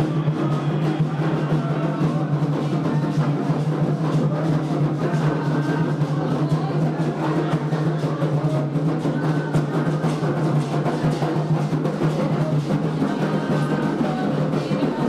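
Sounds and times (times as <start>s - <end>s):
hand drums playing a dense rhythm: 0.0s - 15.0s.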